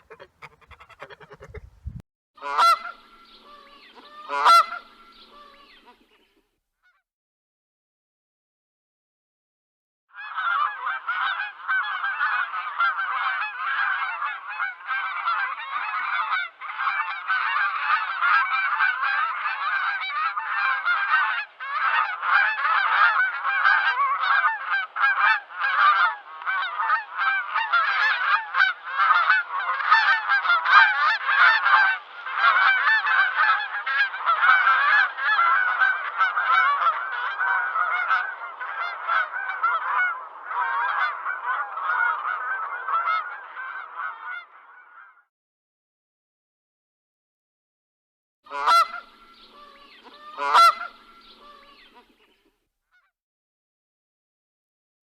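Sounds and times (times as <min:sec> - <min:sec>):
geese honking: 0:00.0 - 0:01.7, 0:02.4 - 0:06.4, 0:10.2 - 0:45.2, 0:48.5 - 0:52.4.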